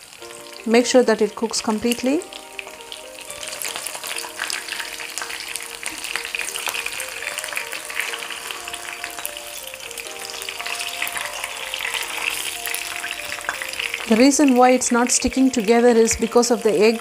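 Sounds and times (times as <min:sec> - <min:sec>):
chicken sizzling in oil: 0:00.0 - 0:17.0
quiet background music: 0:00.0 - 0:17.0.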